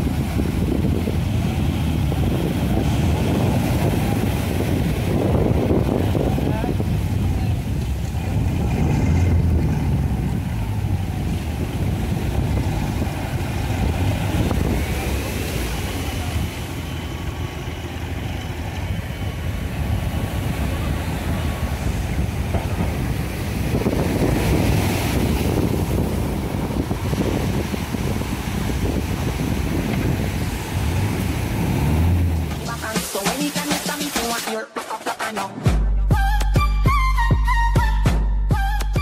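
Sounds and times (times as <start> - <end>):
wind buffeting microphone: 0.0 - 32.6
engine running: 0.0 - 34.2
surf washing up sand: 0.0 - 34.6.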